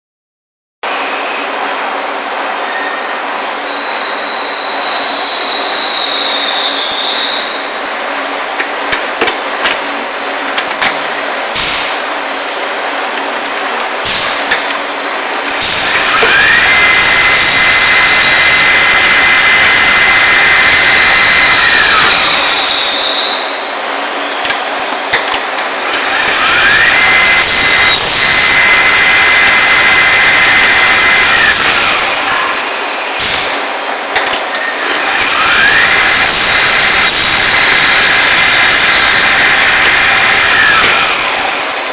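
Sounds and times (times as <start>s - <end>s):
machine whine: 0.8s - 41.9s
lathe running: 0.9s - 41.9s.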